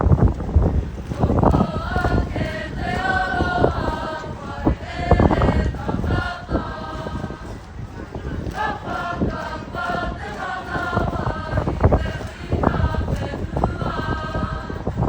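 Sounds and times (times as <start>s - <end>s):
children singing and chanting: 0.8s - 15.0s.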